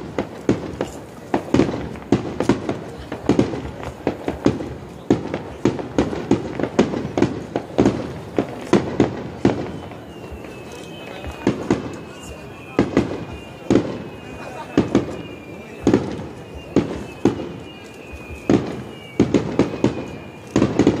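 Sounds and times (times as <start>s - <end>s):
rapid fireworks bangs: 0.0s - 21.0s.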